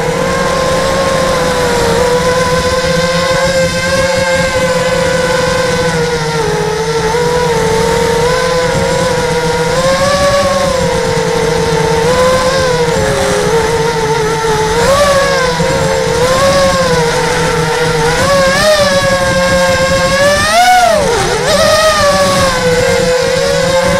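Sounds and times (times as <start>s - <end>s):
electric motors and propellers whining: 0.0s - 23.9s.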